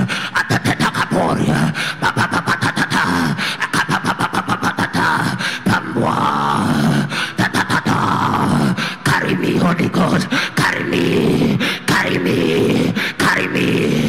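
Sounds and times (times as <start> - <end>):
man praying aloud: 0.0 - 14.0.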